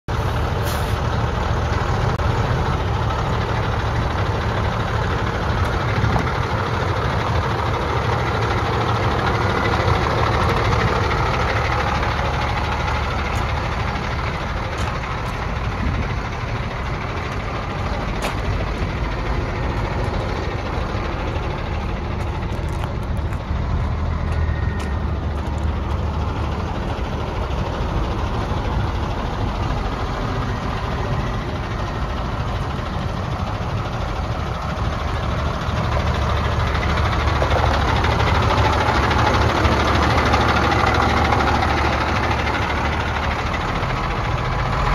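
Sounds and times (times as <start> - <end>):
diesel engine idling: 0.1 - 44.9.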